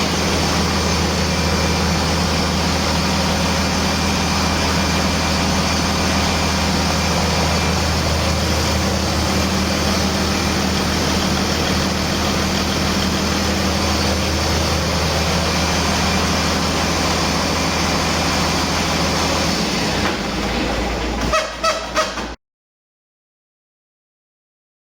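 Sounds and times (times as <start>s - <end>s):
diesel engine idling: 0.0s - 22.4s
engine knocks: 0.0s - 22.4s.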